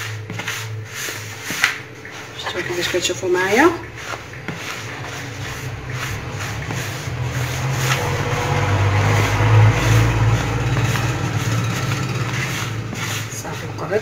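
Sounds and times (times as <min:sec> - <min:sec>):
hands rubbing grains in bowl: 0:00.0 - 0:14.0
low engine-like hum: 0:02.0 - 0:14.0.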